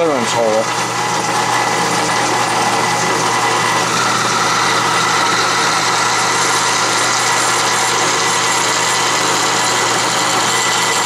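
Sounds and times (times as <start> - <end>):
drill press cutting metal: 0.0 - 11.0.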